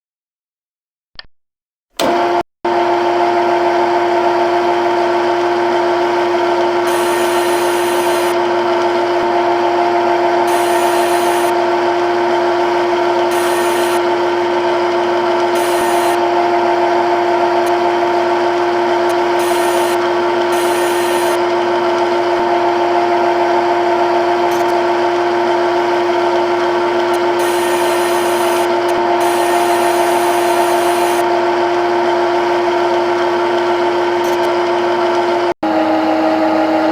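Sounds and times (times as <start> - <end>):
lathe whining: 2.0 - 36.9.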